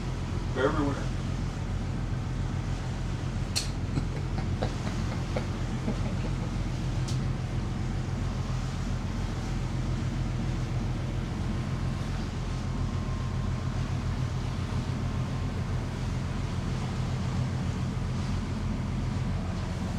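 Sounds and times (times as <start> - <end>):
boat diesel engines droning: 0.0 - 19.9
water noise: 1.1 - 19.9.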